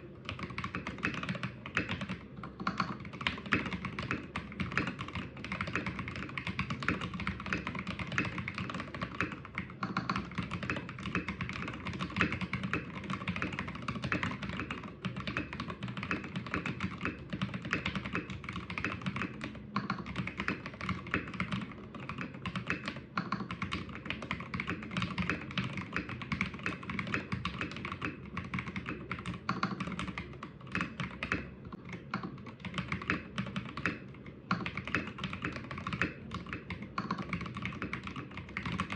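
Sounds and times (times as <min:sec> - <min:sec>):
fast mechanical keyboard typing: 0:00.1 - 0:38.9.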